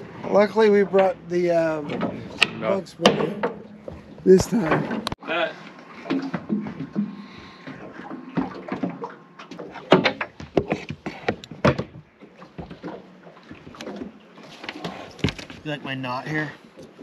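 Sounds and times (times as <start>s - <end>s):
knocks and clunks on metal boat: 0.0s - 5.2s, 6.0s - 15.8s.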